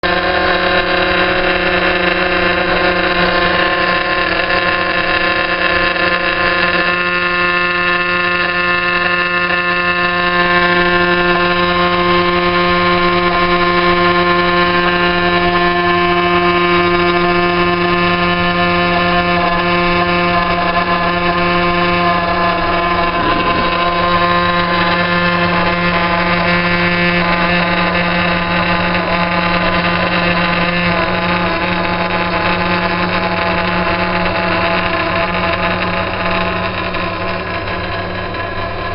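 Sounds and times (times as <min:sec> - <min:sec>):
gas boiler droning hum: 0:00.0 - 0:38.9.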